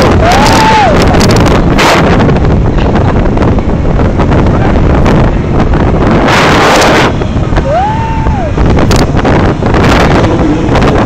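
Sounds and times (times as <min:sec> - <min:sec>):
motorcycle engines rumbling: 0:00.0 - 0:11.0
rush of noise: 0:00.0 - 0:11.0
wind buffeting microphone: 0:00.0 - 0:11.0.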